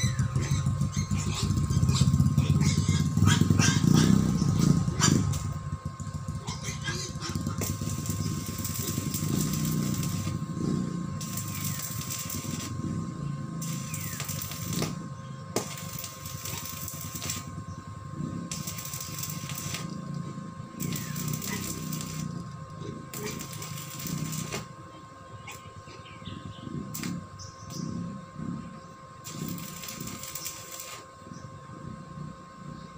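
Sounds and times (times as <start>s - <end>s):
arc welding crackling hiss: 0.0s - 17.6s, 18.2s - 25.8s, 26.9s - 28.2s, 29.2s - 31.5s.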